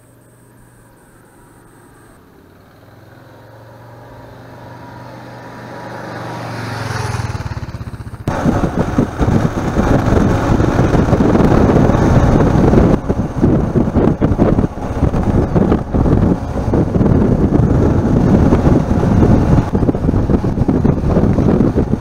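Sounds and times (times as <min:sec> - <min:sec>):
motorcycle engine: 0:00.0 - 0:22.0
wind buffeting microphone: 0:04.0 - 0:22.0.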